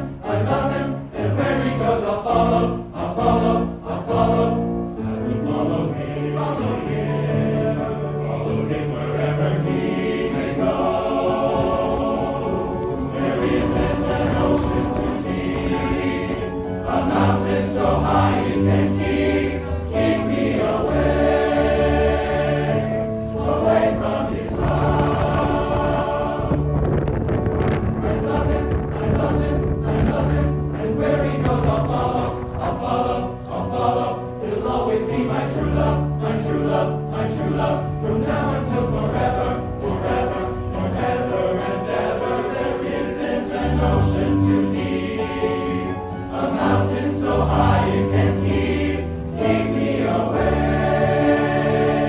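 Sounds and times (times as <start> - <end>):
choir singing in harmony: 0.0 - 52.0.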